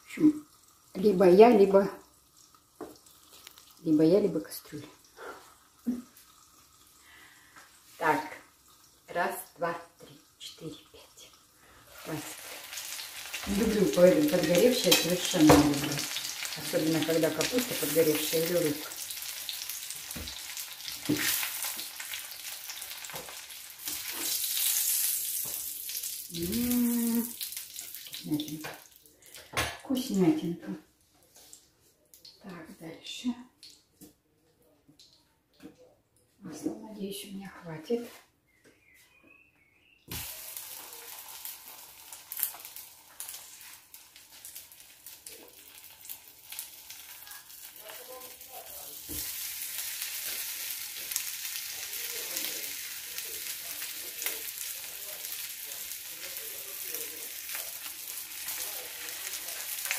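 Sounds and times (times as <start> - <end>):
cutlets sizzling in hot oil: 0.0 - 29.4, 40.1 - 59.9.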